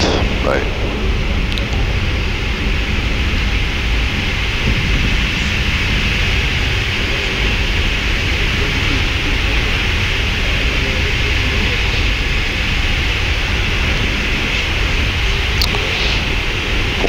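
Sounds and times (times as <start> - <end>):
aircraft cockpit hiss and rumble: 0.0 - 17.0.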